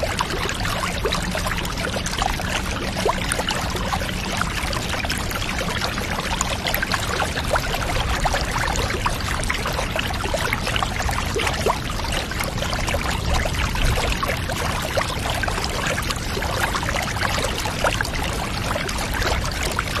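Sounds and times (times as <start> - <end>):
water pouring and trickling: 0.0 - 20.0.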